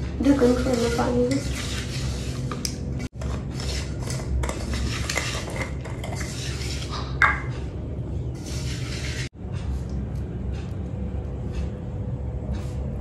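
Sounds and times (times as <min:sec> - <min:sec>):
hands mixing in a steel bowl: 0:00.0 - 0:10.8.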